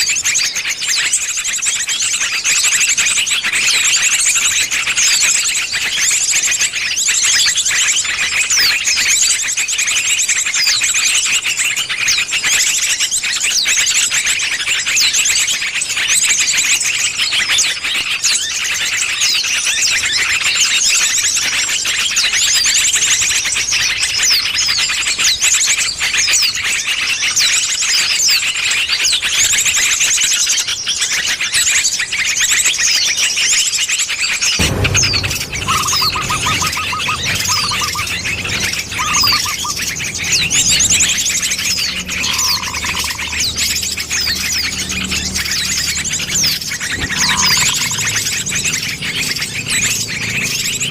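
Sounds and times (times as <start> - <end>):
many small birds chirping and trilling: 0.0 - 50.9.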